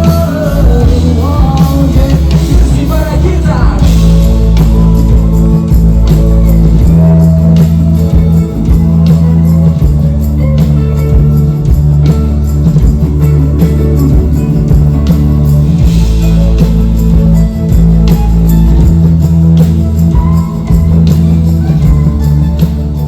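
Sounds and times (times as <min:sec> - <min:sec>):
bass: 0:00.0 - 0:23.0
drum hits: 0:00.0 - 0:23.0
guitar: 0:00.0 - 0:23.0.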